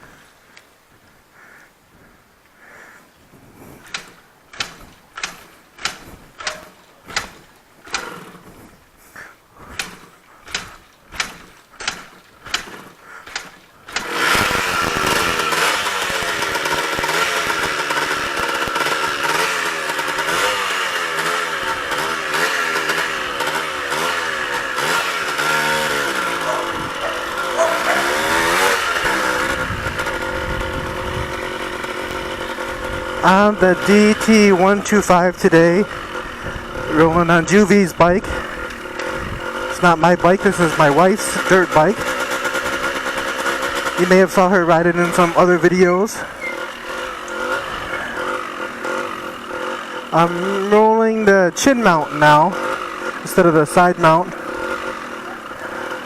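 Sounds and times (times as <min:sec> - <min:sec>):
motorcycle engine revving: 0:03.6 - 0:56.0.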